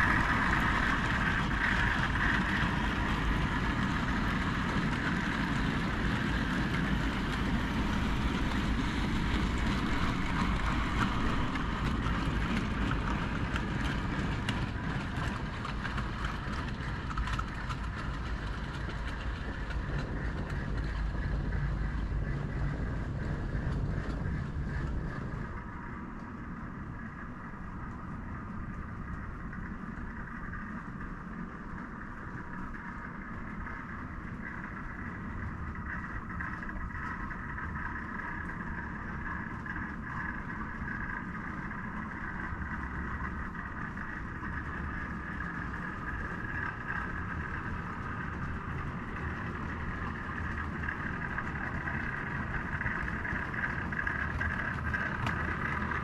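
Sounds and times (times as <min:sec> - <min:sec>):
faint rapid clicks: 0:00.0 - 0:26.3, 0:27.8 - 0:56.0
train rumbling: 0:00.0 - 0:56.0.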